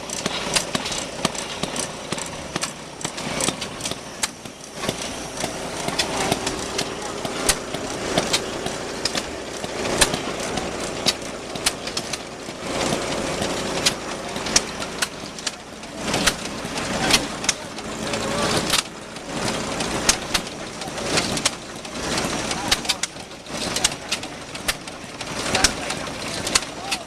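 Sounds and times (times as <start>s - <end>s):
engines running: 0.0s - 27.0s
voices: 0.0s - 27.0s.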